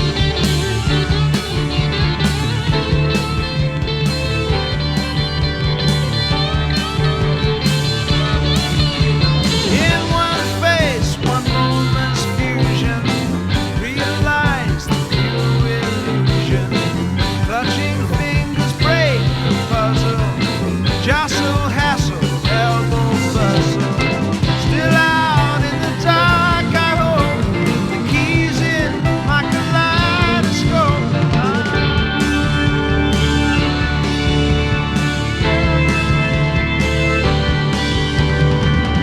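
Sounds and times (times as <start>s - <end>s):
psychedelic rock band playing: 0.0s - 39.0s.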